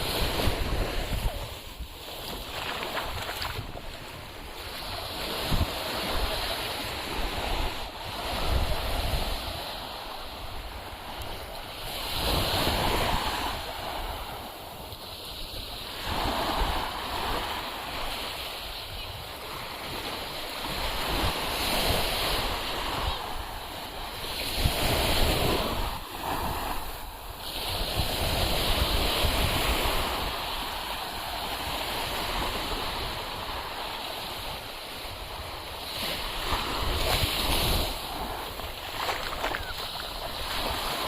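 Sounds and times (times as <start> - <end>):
sea waves breaking on beach: 0.0 - 41.0.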